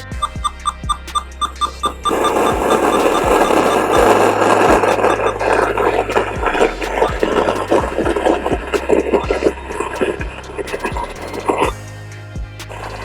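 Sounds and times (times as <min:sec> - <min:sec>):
low bass hum: 0:00.0 - 0:13.0.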